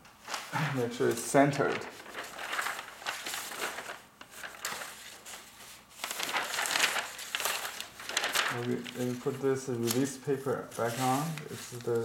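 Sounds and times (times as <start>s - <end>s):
paper rustling and crinkling: 0.1s - 12.0s.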